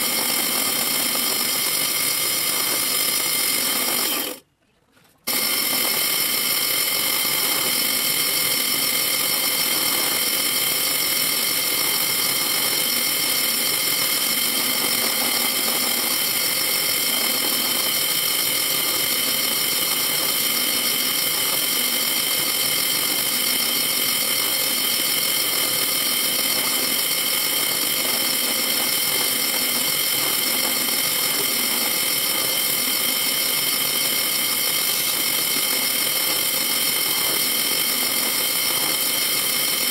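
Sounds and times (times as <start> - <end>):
drill bit drilling sheet metal: 0.0 - 4.4, 5.3 - 39.9
drill press motor whine: 0.0 - 4.4, 5.3 - 39.9.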